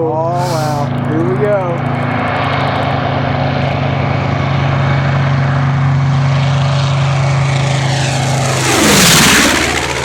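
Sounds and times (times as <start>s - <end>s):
aircraft engines droning: 0.0s - 10.0s.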